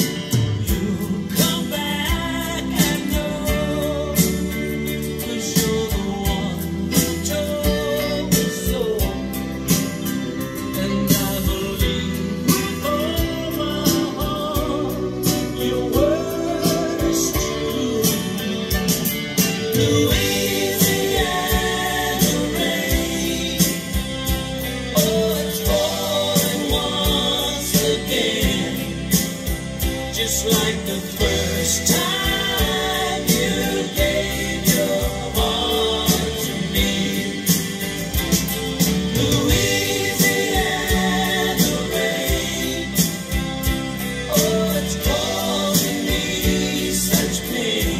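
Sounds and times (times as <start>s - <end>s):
music with singing and beat: 0.0s - 47.9s.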